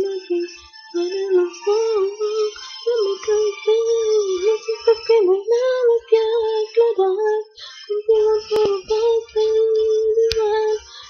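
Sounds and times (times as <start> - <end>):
woman singing pop ballad: 0.0 - 11.0.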